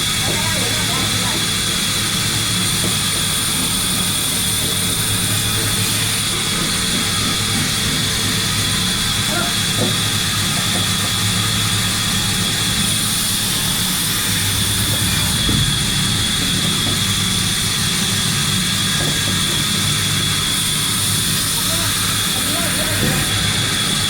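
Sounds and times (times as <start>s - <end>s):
high machinery whine: 0.0s - 24.0s
low machinery hum: 0.0s - 24.0s.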